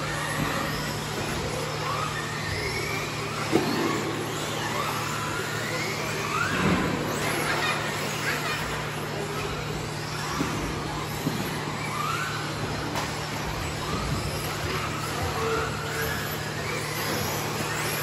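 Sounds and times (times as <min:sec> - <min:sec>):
electric rc car motors whining: 0:00.0 - 0:18.0.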